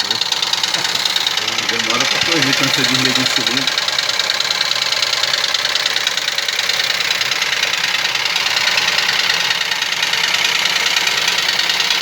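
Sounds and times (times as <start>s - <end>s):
engine with metallic ticking: 0.0s - 12.0s.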